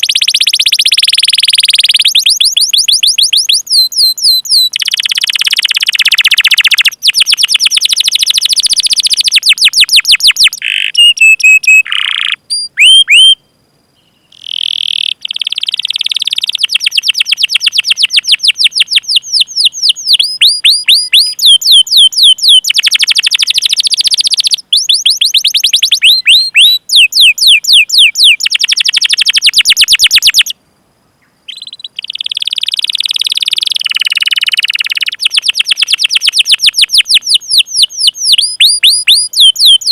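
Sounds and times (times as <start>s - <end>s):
canary singing trills: 0.0s - 30.6s, 31.2s - 39.9s.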